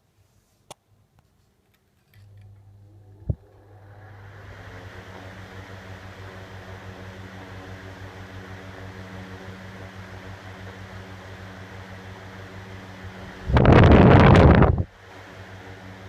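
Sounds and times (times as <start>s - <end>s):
ventilation fan humming: 2.0s - 16.0s.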